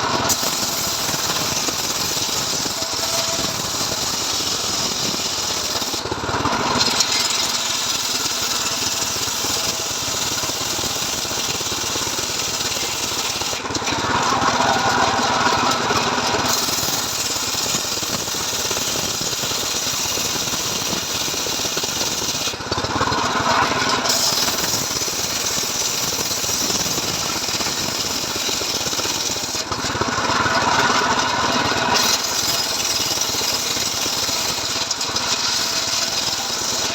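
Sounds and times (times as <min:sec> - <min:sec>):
chainsaw sawing through a log: 0:00.0 - 0:36.9.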